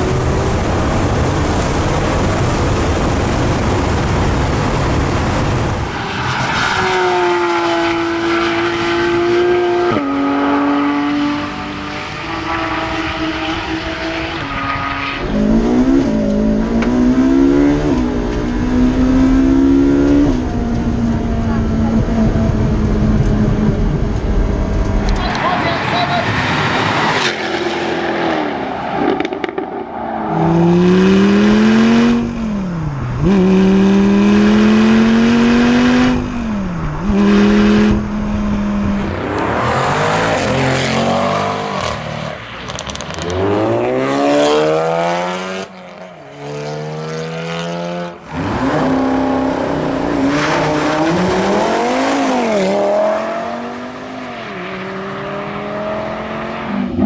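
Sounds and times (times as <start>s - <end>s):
car engines revving and accelerating: 0.0s - 57.0s.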